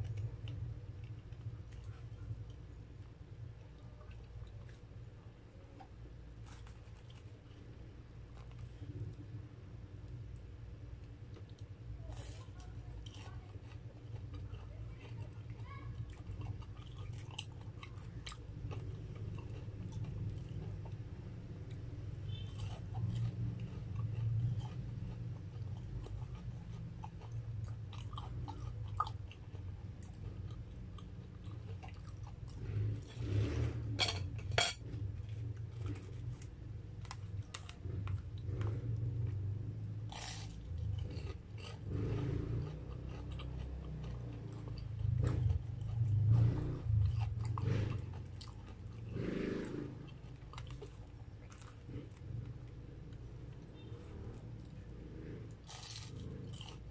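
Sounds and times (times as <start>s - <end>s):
crunching of crisp crust: 0.0s - 10.4s, 11.0s - 56.9s
chewing with wet mouth sounds: 0.0s - 33.7s, 34.3s - 56.9s.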